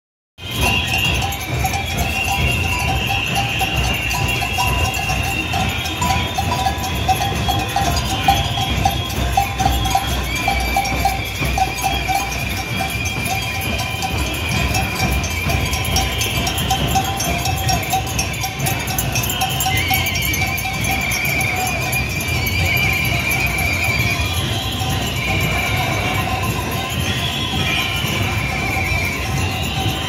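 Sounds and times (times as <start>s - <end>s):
cowbells ringing: 0.4s - 30.0s
crowd shuffling and hubbub: 0.4s - 30.0s.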